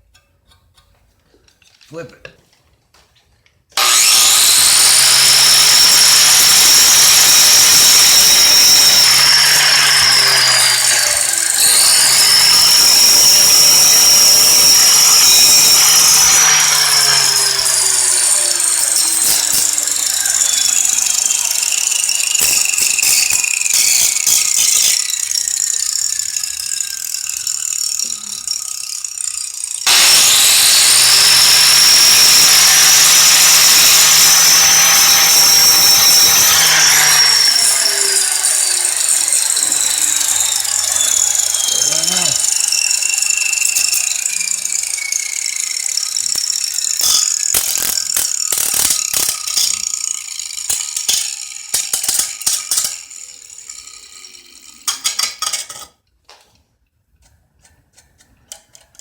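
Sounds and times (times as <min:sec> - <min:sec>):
power tool motor whining: 0:03.8 - 0:54.9.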